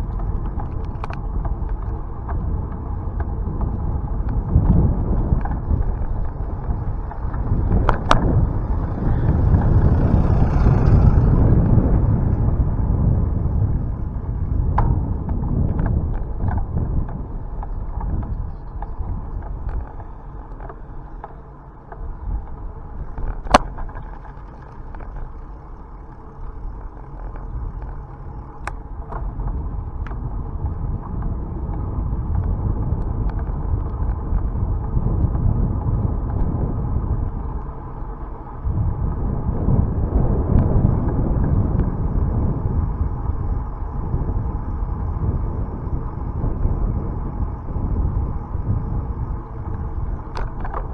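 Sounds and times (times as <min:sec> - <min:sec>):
bike clicks and knocks: 0:00.0 - 0:39.2, 0:40.4 - 0:50.9
wind buffeting microphone: 0:00.0 - 0:50.9.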